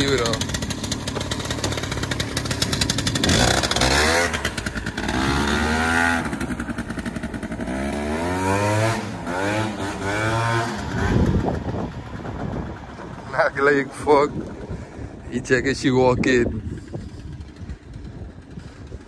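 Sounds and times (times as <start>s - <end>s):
scooter engine accelerating: 0.0s - 15.2s, 16.6s - 19.0s.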